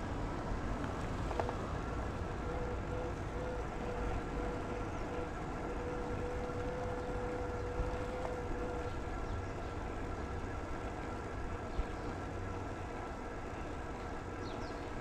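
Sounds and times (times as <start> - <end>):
steady whine: 0.0 - 14.9
road rumble: 0.0 - 15.0
wind: 0.0 - 15.0.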